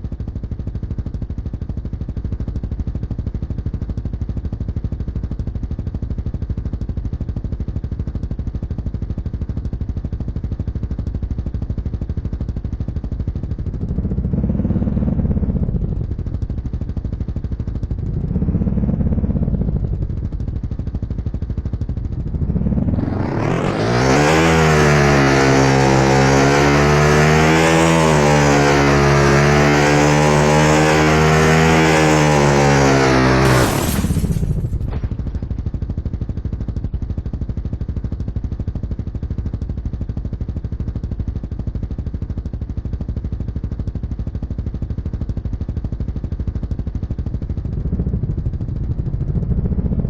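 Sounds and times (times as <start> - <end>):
motorcycle engine idling and revving: 0.0 - 50.0.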